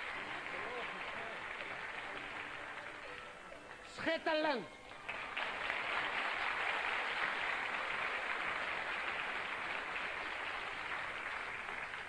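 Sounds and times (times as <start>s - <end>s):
audience applauding: 0.0s - 3.7s, 4.3s - 12.0s.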